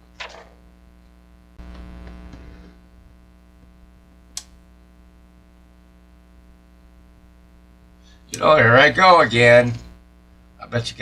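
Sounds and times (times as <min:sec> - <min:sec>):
radio mains hum: 0:00.0 - 0:11.0.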